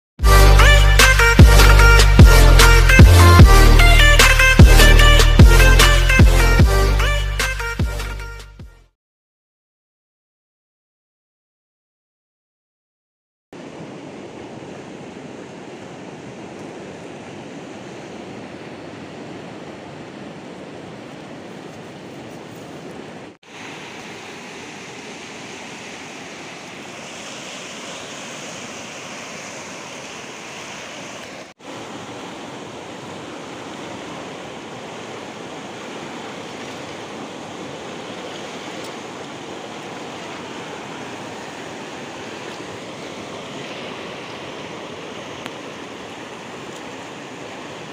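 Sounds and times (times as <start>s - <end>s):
river water rushing: 0.3s - 7.2s, 13.6s - 47.9s.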